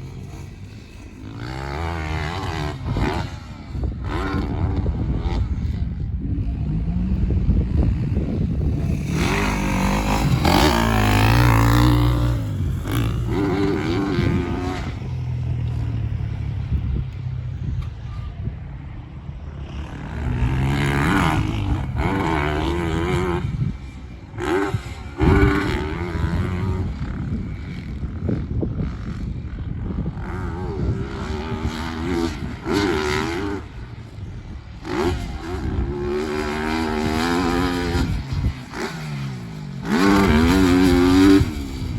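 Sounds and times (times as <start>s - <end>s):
motocross bike engine revving: 0.0s - 18.0s, 18.9s - 41.9s.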